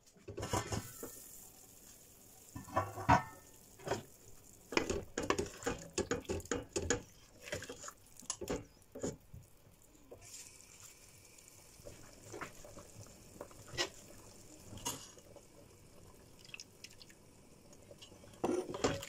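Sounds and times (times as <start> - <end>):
soup bubbling in a pot: 0.2 - 19.0.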